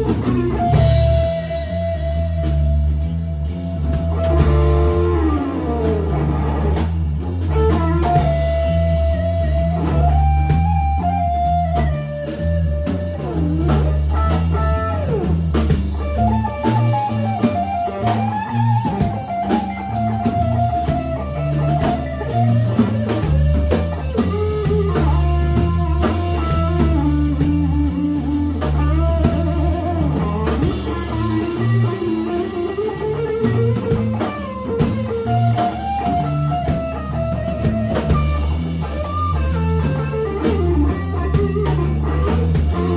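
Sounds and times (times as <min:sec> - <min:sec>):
drum kit: 0:00.0 - 0:42.9
electric guitar lead: 0:00.0 - 0:42.9
rock band playing: 0:00.0 - 0:42.9.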